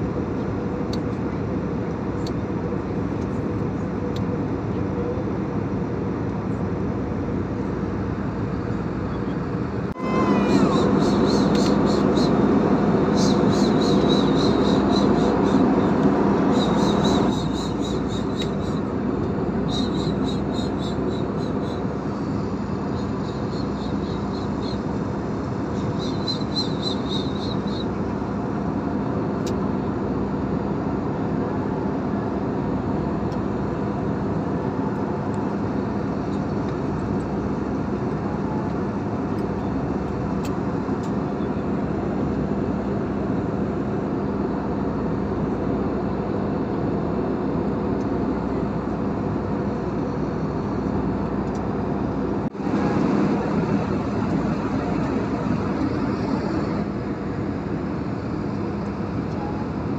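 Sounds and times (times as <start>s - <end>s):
jet engine and airflow rush: 0.0s - 59.9s.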